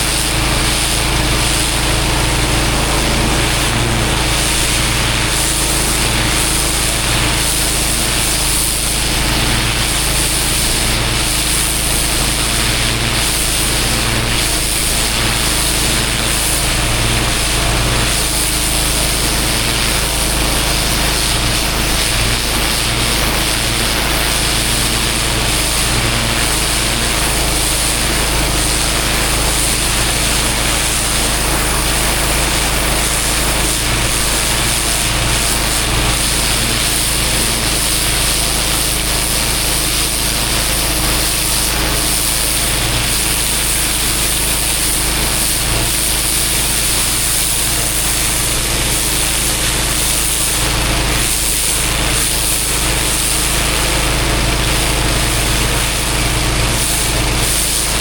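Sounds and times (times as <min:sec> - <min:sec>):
pressure washer engine running: 0:00.0 - 0:58.0
water spraying on paving: 0:00.0 - 0:58.0.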